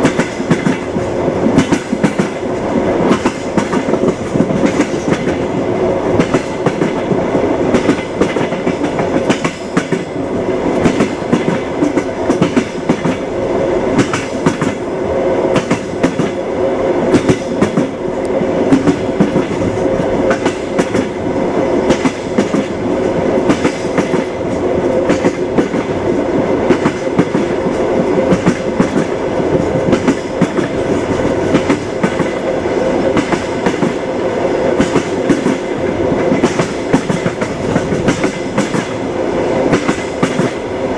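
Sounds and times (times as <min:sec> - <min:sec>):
train wheels clattering: 0:00.0 - 0:13.3, 0:14.0 - 0:14.8, 0:15.5 - 0:16.4, 0:17.1 - 0:21.2, 0:21.8 - 0:34.1, 0:34.8 - 0:39.0, 0:39.6 - 0:40.7.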